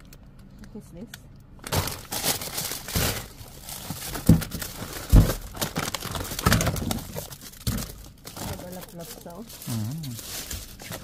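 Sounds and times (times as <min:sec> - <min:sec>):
plastic packaging crinkling: 0:01.6 - 0:11.0.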